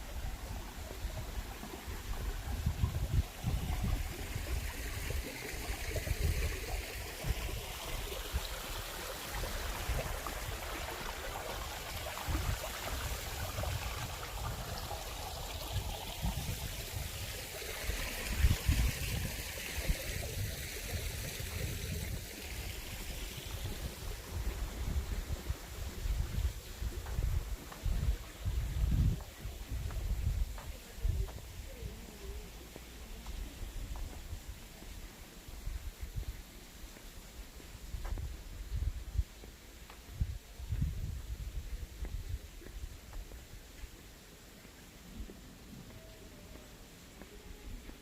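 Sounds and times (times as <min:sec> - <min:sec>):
wind buffeting the microphone: 0:00.0 - 0:32.5, 0:37.8 - 0:43.8
stream water running: 0:00.0 - 0:48.0.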